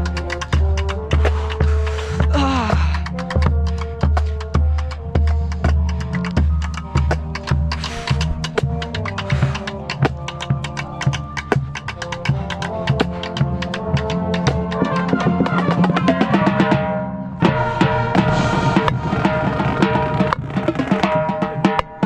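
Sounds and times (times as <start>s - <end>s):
bass drums: 0.0s - 22.0s
marching band sustained chords: 0.0s - 22.0s
snare drum: 0.0s - 22.0s
tenor drums: 0.0s - 22.0s.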